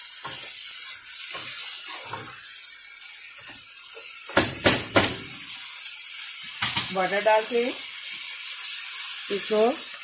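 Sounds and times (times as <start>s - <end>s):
meat sizzling in a pot: 0.0s - 10.0s.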